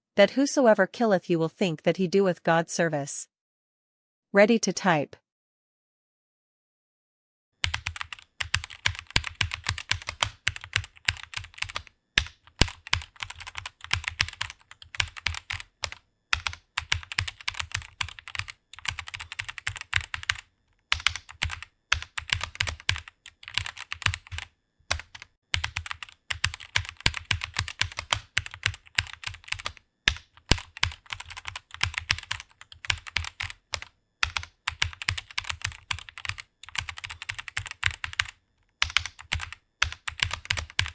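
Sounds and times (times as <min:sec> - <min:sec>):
typing on computer keyboard: 0:07.6 - 0:40.9.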